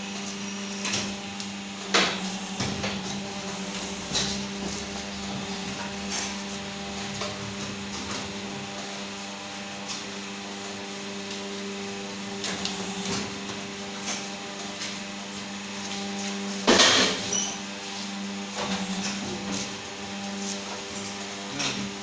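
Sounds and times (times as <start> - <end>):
press machines humming: 0.0 - 22.0.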